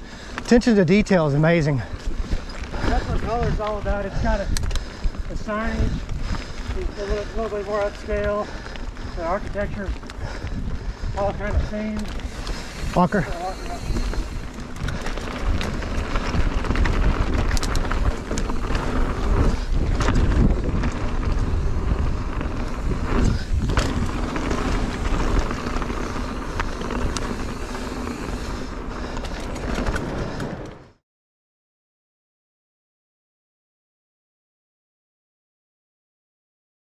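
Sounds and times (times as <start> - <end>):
bike tyres rolling on trail: 0.0 - 31.0
wind buffeting microphone: 1.1 - 31.0.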